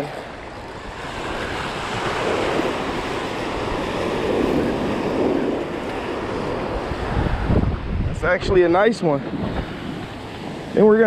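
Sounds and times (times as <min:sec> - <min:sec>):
surf waves breaking: 0:00.0 - 0:11.0
wind buffeting microphone: 0:00.0 - 0:11.0.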